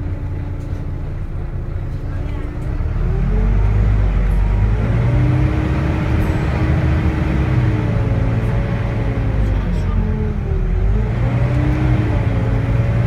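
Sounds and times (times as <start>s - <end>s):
bus diesel engine droning: 0.0s - 13.0s
engine whine: 0.0s - 13.0s.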